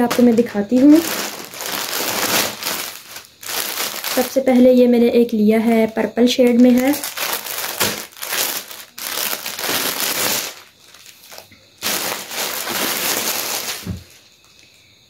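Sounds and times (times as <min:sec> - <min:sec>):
plastic packaging crinkling: 0:00.0 - 0:04.8, 0:06.5 - 0:14.2.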